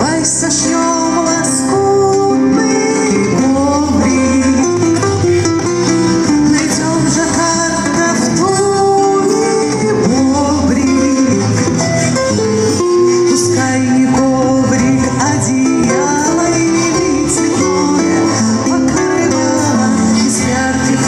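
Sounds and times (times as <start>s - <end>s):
plucked acoustic guitar: 0.0s - 21.0s.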